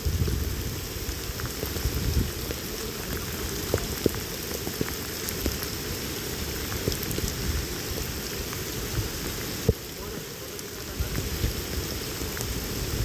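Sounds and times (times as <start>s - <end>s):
heavy rain falling: 0.0s - 13.0s
raindrops striking close by: 0.0s - 13.0s.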